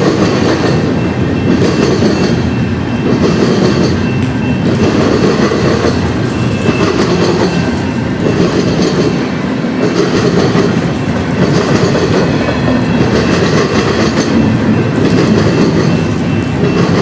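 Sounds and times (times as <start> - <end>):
freight train cars rolling past: 0.0 - 17.0.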